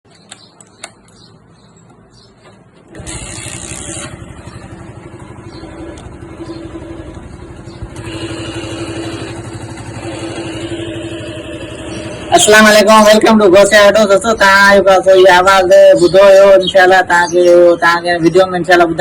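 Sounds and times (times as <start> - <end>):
motorcycle engine pulsing: 2.7 - 19.0.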